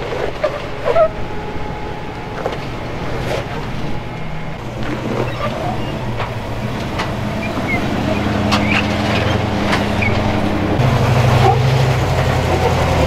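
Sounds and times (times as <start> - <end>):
off-road engines crawling: 0.0 - 13.0.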